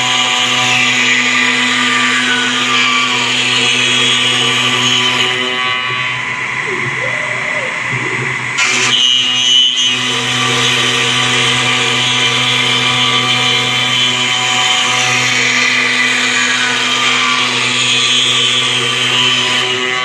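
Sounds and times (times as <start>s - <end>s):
bit cutting wood: 0.0s - 6.6s, 8.3s - 20.0s
router spindle whining: 0.0s - 20.0s.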